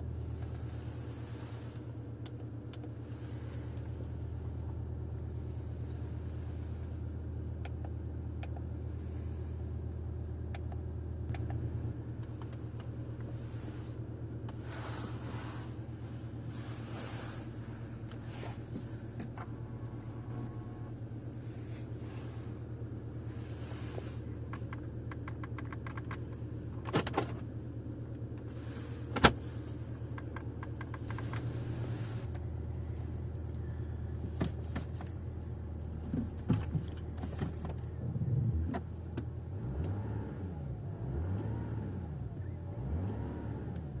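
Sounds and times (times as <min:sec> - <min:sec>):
diesel engine idling: 0:00.0 - 0:39.5.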